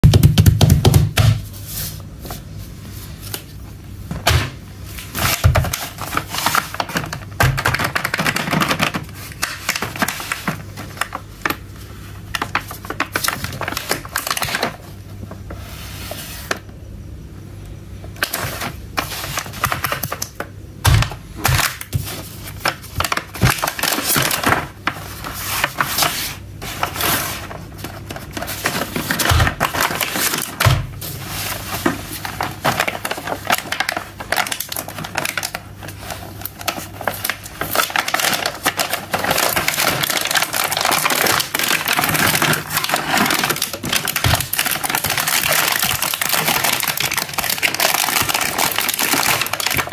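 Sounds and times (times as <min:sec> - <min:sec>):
plastic blister pack crinkling: 0:04.9 - 0:15.5, 0:18.1 - 0:49.9.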